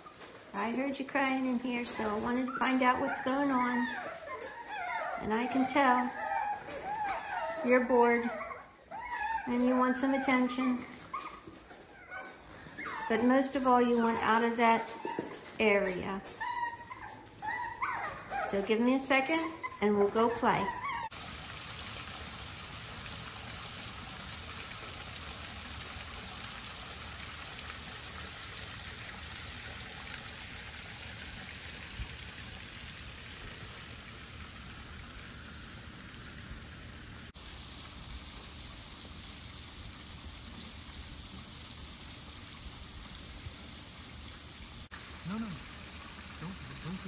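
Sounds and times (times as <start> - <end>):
outdoor background hiss: 0.0 - 47.0.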